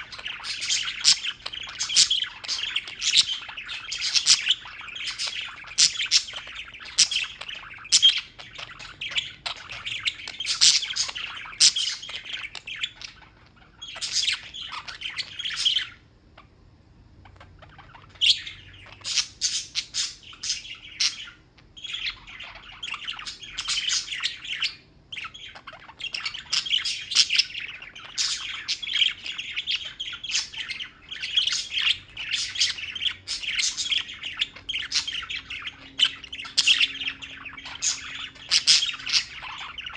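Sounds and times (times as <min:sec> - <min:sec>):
pet birds chirping: 0:00.0 - 0:39.9.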